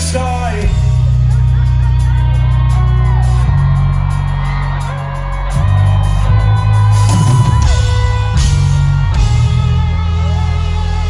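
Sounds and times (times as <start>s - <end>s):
live rock music over loudspeakers: 0.0s - 11.0s.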